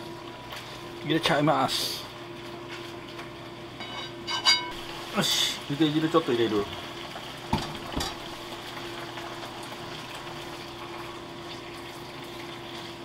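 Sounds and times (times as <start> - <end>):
pan simmering: 0.0 - 13.0.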